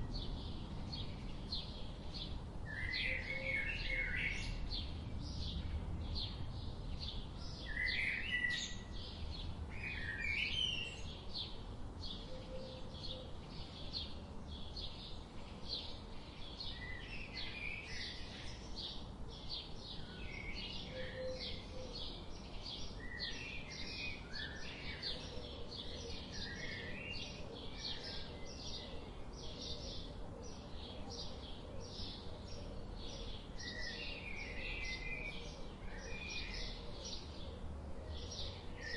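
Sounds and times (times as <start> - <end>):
forest birds calling: 0.0 - 38.9.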